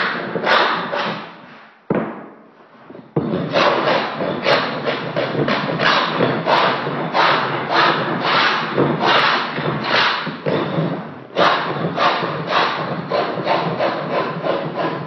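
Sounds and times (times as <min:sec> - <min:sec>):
hand scraper rasping on wood floor: 0:00.0 - 0:01.7, 0:02.9 - 0:15.0.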